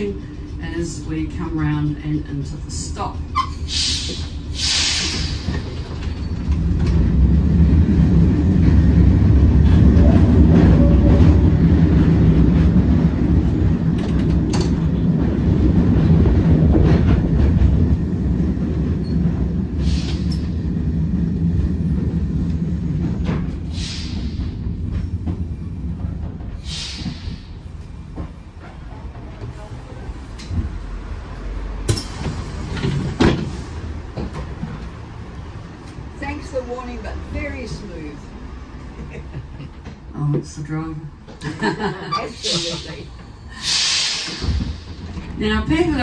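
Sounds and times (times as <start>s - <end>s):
tram rumbling on rails: 0.0s - 46.0s.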